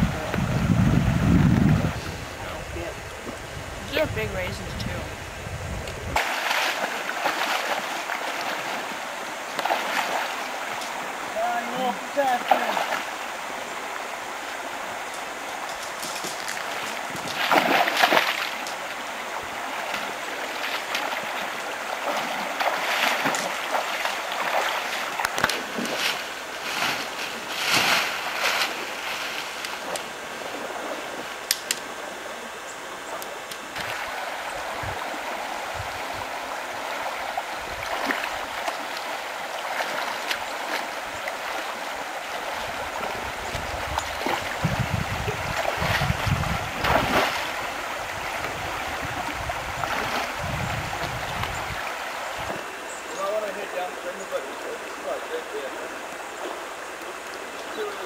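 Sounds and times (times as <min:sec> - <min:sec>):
water rushing over rocks: 0:00.0 - 0:58.0
water splashing: 0:00.0 - 0:58.0.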